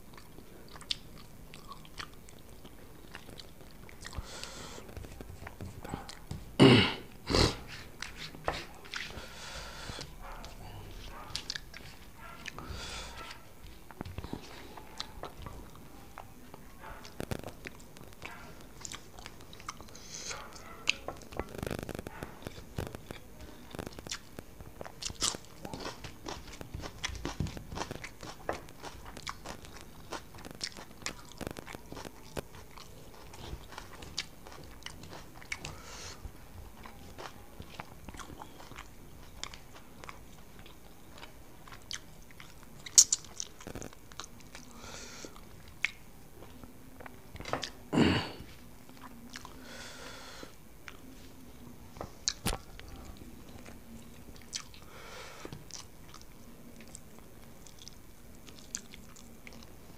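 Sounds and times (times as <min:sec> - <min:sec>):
person chewing and smacking: 0:00.0 - 0:49.7, 0:52.0 - 0:59.8.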